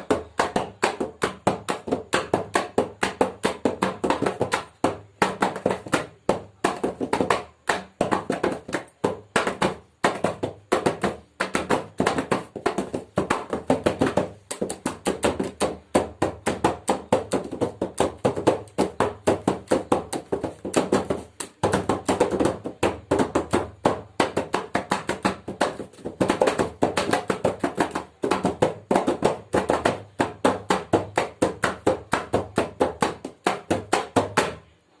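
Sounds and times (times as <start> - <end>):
barrel drum played by hand: 0.0 - 34.7.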